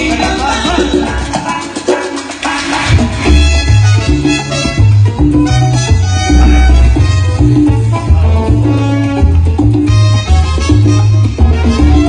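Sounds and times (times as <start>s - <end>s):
salsa music: 0.0s - 12.0s.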